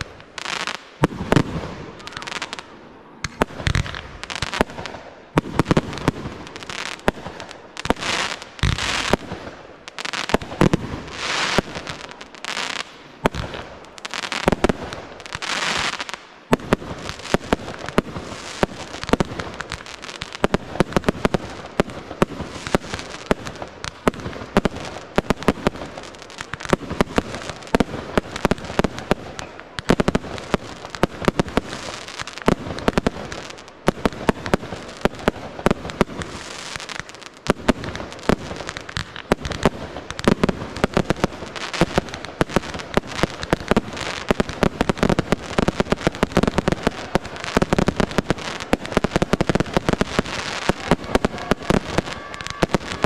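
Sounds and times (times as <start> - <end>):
fireworks bursting with bangs: 0.0 - 53.0
fireworks hissing: 0.0 - 53.0
rapid crackling fireworks: 0.0 - 53.0.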